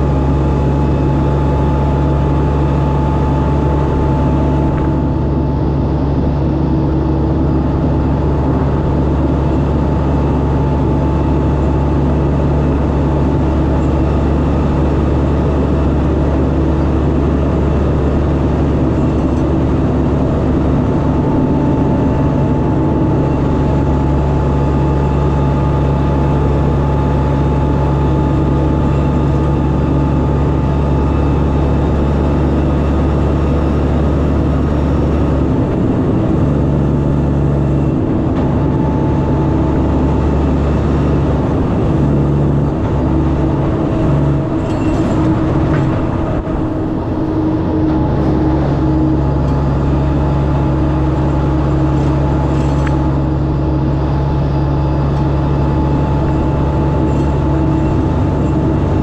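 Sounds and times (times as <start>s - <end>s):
truck engine droning: 0.0s - 59.0s
tyre and road noise: 0.0s - 59.0s.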